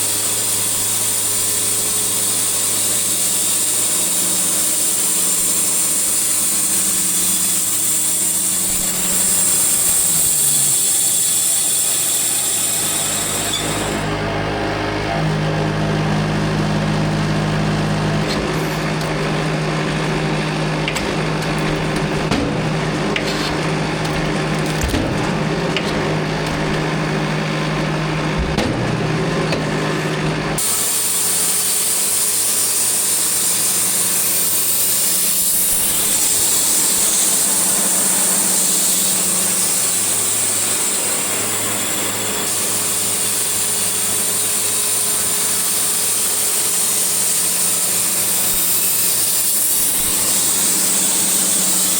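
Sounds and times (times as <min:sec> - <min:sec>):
engine-powered saw cutting wood: 0:00.0 - 0:51.9.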